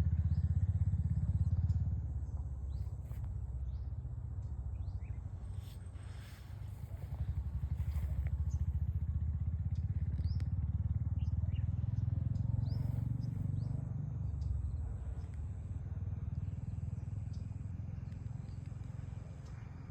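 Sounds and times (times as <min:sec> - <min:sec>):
engine rumbling: 0:00.0 - 0:19.9.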